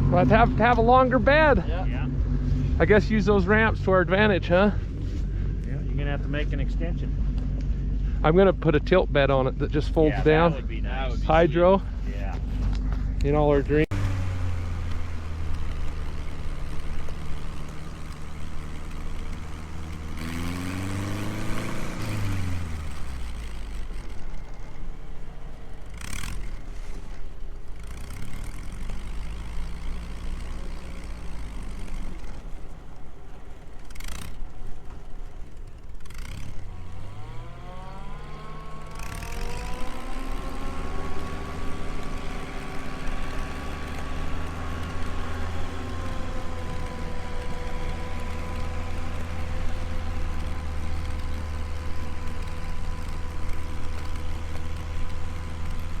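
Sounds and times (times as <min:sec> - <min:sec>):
snow vehicle engine revving: 0:00.0 - 0:56.0.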